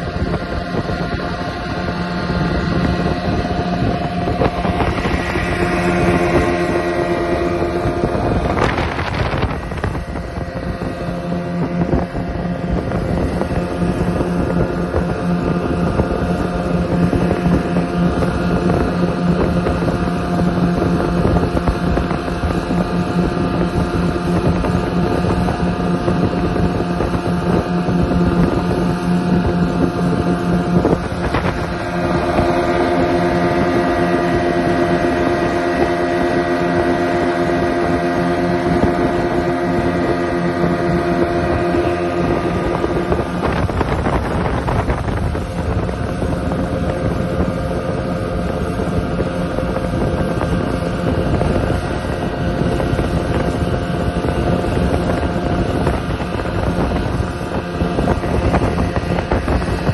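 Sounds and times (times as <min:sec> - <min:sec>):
motorboat engine humming: 0:00.0 - 0:59.9
water rushing in wake: 0:00.0 - 0:59.9
wind buffeting microphone: 0:00.0 - 0:59.9.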